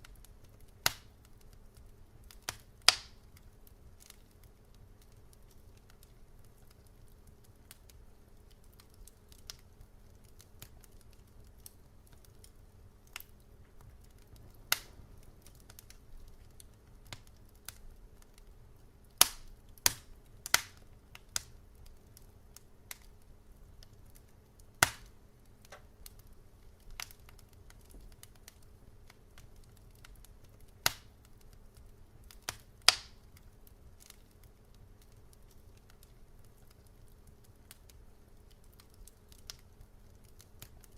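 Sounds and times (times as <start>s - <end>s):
low steady hum: 0.0s - 40.9s
wood fire crackling: 0.0s - 40.9s.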